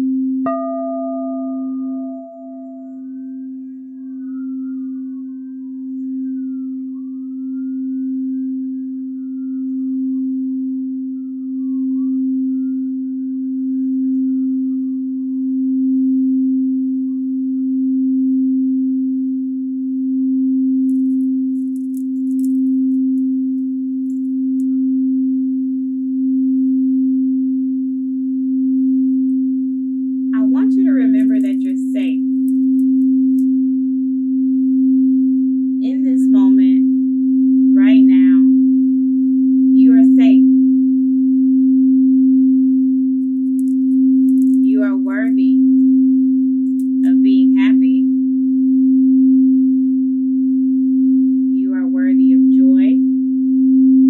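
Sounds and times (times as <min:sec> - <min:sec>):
singing bowl tone: 0:00.0 - 0:54.0.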